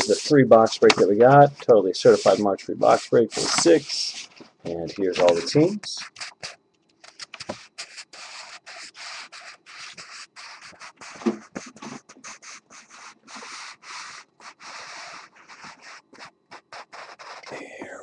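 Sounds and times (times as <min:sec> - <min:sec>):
paper rustling and rubbing: 0:00.0 - 0:17.6.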